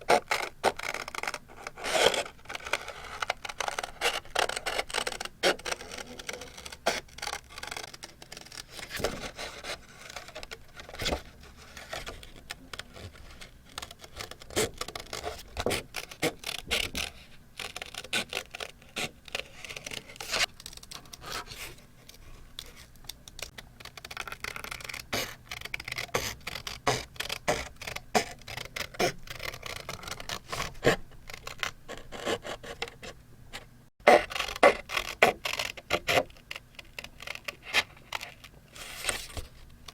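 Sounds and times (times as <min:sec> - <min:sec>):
paper scratching and rubbing: 0:00.0 - 0:21.8, 0:22.6 - 0:33.1, 0:34.0 - 0:39.4.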